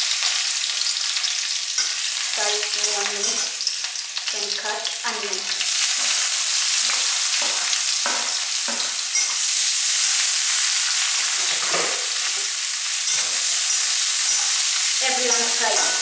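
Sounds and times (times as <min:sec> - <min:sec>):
onion sizzling in hot oil: 0:00.0 - 0:16.0
spoon scraping a pan: 0:00.9 - 0:04.0, 0:05.5 - 0:16.0.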